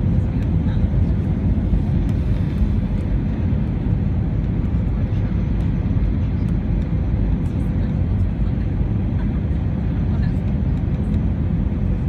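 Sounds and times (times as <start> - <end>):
aircraft cabin engine rumble: 0.0 - 12.0
faint constant hum: 0.0 - 12.0.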